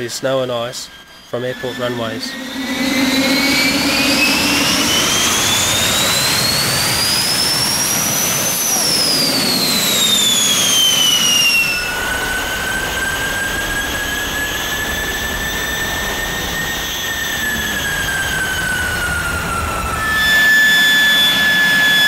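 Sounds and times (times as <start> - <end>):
jet engine running: 0.0 - 22.0
turbine whine: 0.0 - 22.0.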